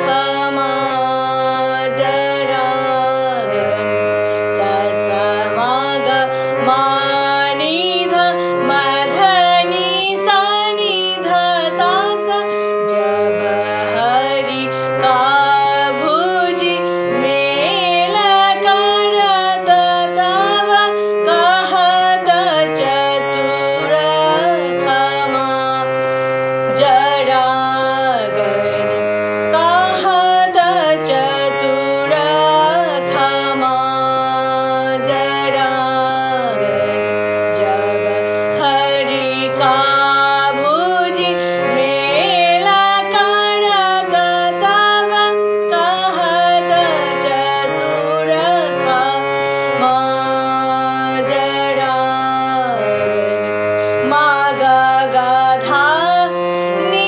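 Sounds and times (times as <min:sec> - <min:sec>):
held accompanying notes: 0:00.0 - 0:57.0
woman singing: 0:00.0 - 0:57.0.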